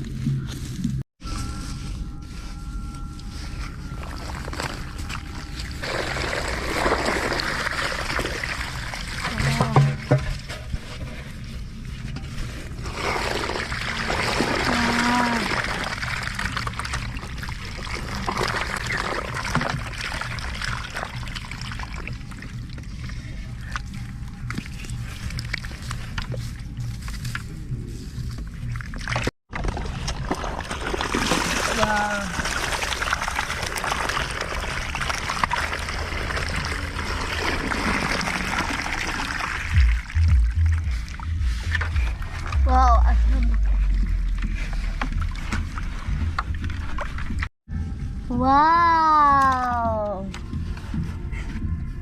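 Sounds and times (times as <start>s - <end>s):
water splashing and trickling: 3.3s - 47.5s.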